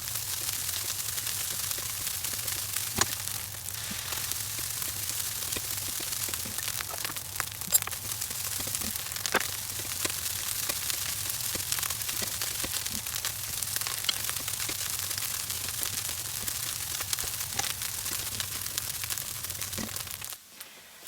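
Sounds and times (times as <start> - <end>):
rice sizzling in a wok: 0.0 - 21.0.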